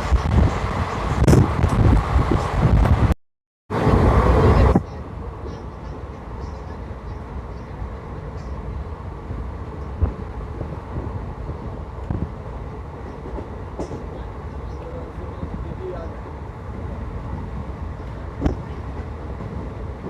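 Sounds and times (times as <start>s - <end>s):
train wind and rumble: 0.0s - 20.0s.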